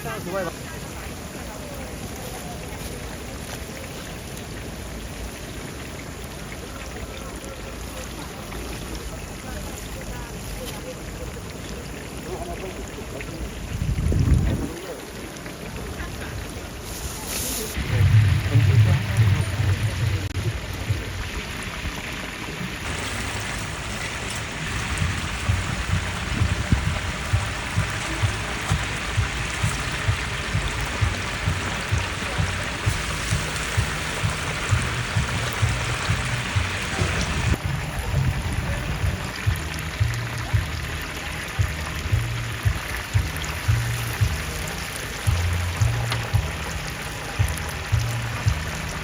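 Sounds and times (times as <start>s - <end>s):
chicken deep-frying in oil: 0.0s - 49.0s.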